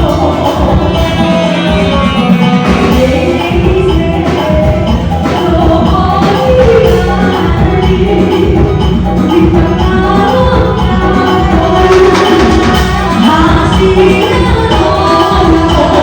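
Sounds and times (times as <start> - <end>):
loud band music: 0.0 - 16.0.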